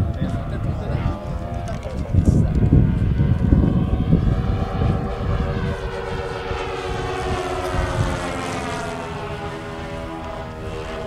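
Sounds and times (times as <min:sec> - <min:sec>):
model plane engines droning: 0:00.0 - 0:11.0.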